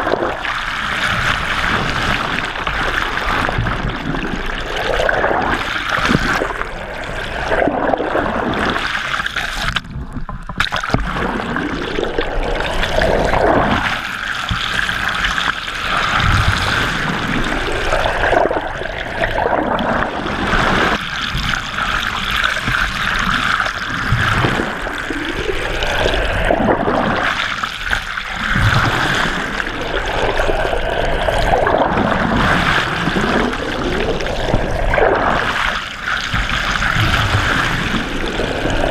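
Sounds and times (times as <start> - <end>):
water rushing and gurgling: 0.0 - 38.9.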